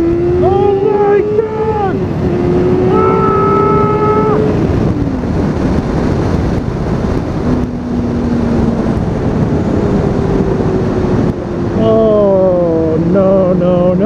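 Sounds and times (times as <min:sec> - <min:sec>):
low steady engine note: 0:00.0 - 0:14.0
motorcycle engine accelerating: 0:00.0 - 0:14.0
wind rush on microphone: 0:00.0 - 0:14.0.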